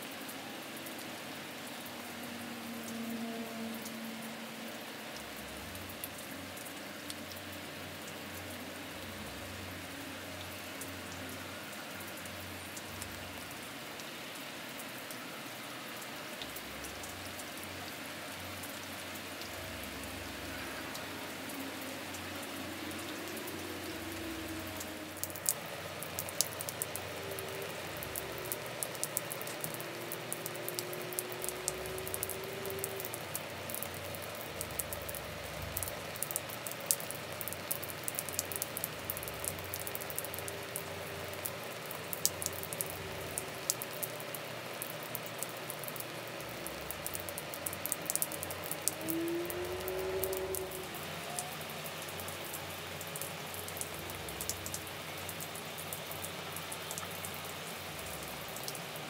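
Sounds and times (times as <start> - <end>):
rain falling: 0.0 - 59.0
raindrops ticking close: 0.0 - 59.0.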